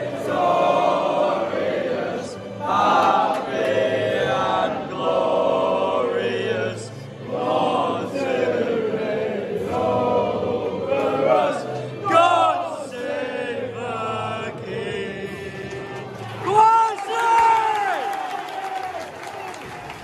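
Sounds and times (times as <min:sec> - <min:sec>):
stadium crowd singing: 0:00.0 - 0:16.7.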